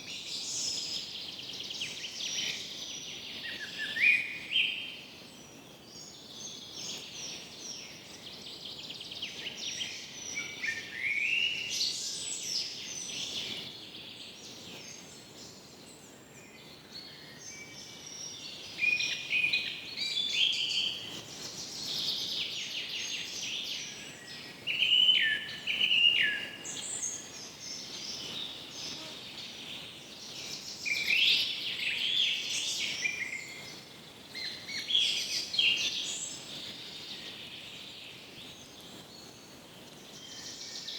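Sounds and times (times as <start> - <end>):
chorus of birds singing: 0.0 - 40.9
faint steady hiss: 0.0 - 40.9.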